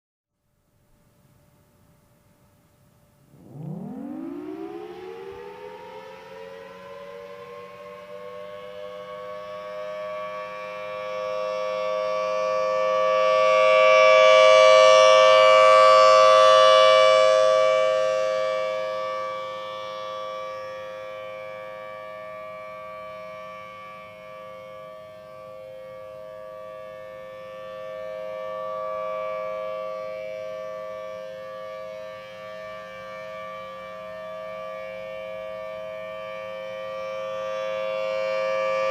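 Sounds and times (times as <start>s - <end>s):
warning siren two-note wail: 3.2s - 38.9s.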